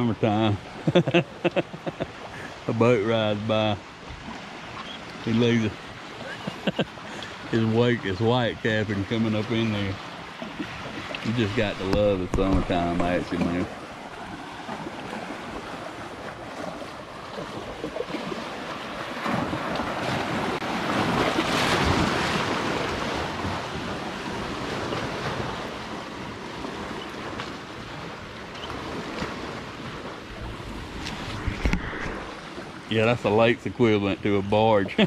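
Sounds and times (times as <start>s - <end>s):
waves splashing against boat hull: 0.0s - 35.0s.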